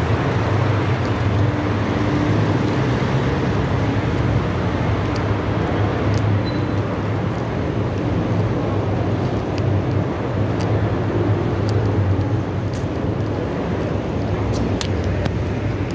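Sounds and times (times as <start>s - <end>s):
city traffic rumble: 0.0s - 15.9s.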